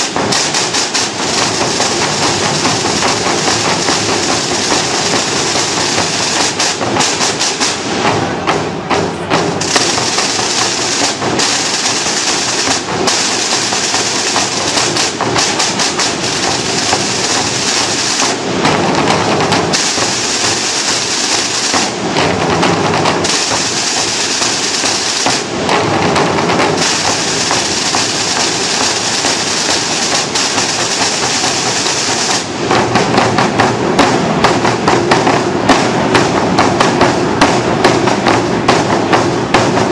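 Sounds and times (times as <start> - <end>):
bass drums: 0.0 - 39.9
snare drum rolls: 0.0 - 39.9.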